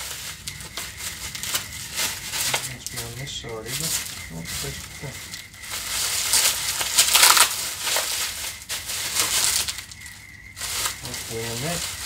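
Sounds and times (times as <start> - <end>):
bubble wrap crackling: 0.0 - 12.0.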